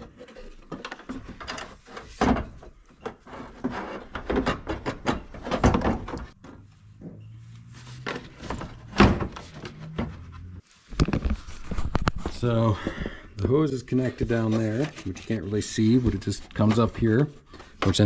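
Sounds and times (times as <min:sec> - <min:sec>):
plastic parts rubbing and clattering: 0:00.0 - 0:06.6, 0:07.5 - 0:18.0.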